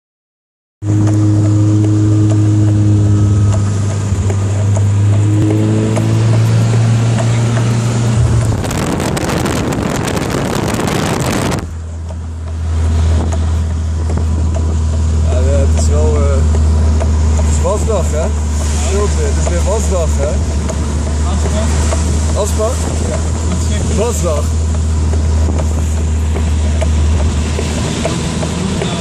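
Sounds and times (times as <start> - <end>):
car engine running: 0.8 - 29.0.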